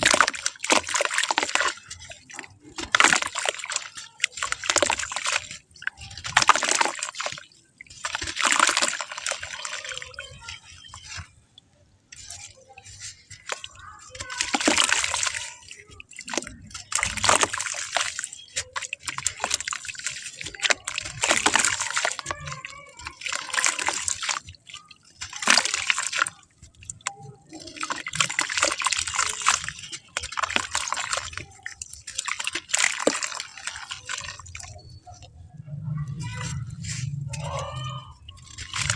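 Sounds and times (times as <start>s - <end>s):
wet clay sloshing in water: 0.0s - 38.9s.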